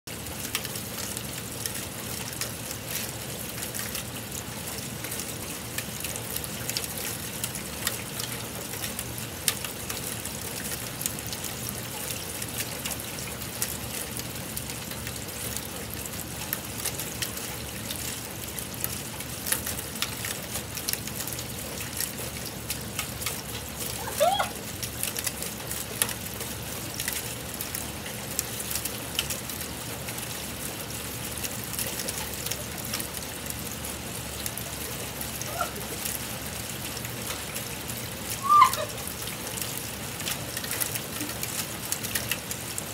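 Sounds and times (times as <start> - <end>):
steady rain falling: 0.1 - 42.9.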